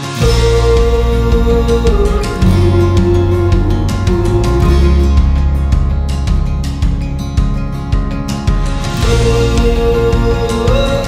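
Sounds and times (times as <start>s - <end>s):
background music: 0.0s - 11.0s
plucked guitar notes: 0.0s - 11.0s.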